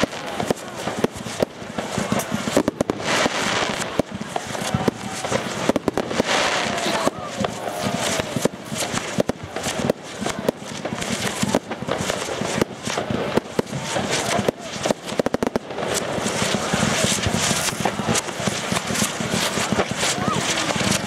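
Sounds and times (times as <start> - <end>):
fireworks banging: 0.0 - 21.0.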